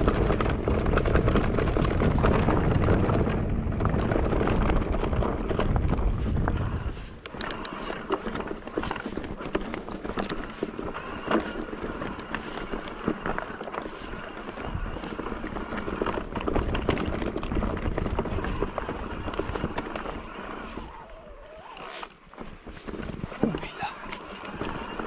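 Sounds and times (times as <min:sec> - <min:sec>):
bike rattling: 0:00.0 - 0:25.0
tyres crunching on loose rock: 0:00.0 - 0:25.0
wind rumble on microphone: 0:00.0 - 0:25.0.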